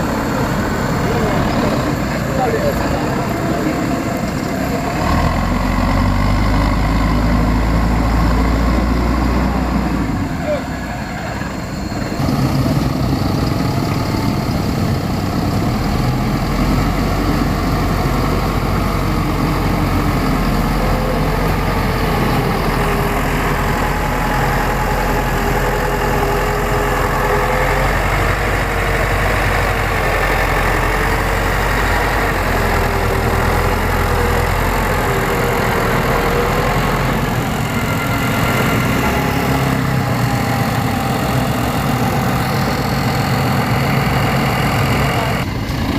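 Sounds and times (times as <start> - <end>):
heavy diesel machine running: 0.0 - 45.9.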